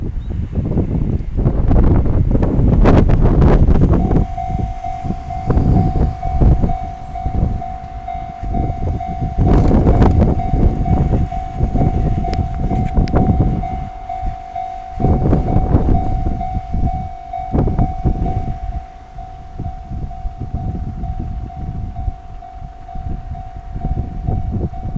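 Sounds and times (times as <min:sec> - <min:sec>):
low rumble: 0:01.5 - 0:22.3
level crossing electronic bell: 0:03.8 - 0:24.9.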